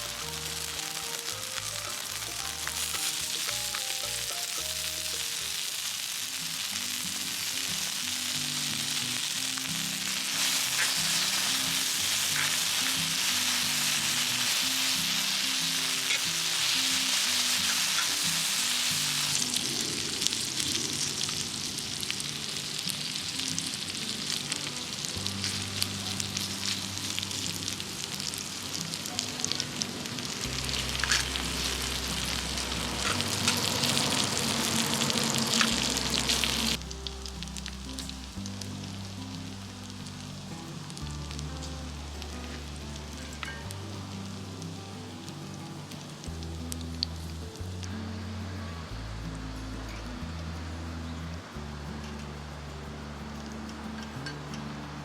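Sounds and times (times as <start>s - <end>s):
background music: 0.0s - 55.0s
food sizzling on griddle: 0.0s - 55.0s.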